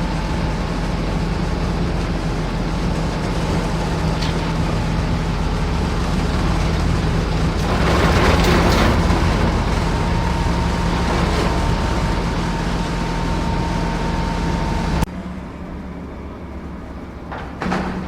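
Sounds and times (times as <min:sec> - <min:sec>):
rc machinery engine hum: 0:00.0 - 0:18.0.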